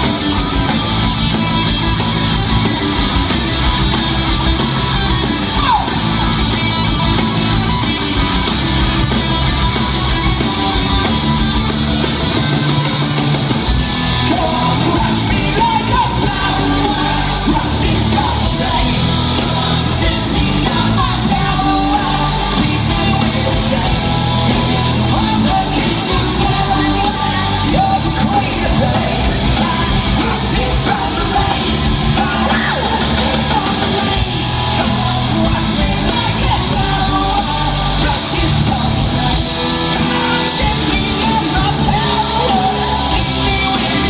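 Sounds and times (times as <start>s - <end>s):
person singing and shouting: 0.0s - 11.4s, 13.9s - 44.0s
rock band playing: 0.0s - 44.0s.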